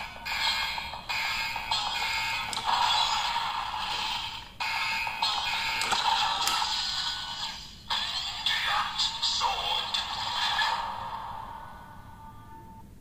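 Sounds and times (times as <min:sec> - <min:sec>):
toy belt electronic sound effects: 0:00.0 - 0:11.0.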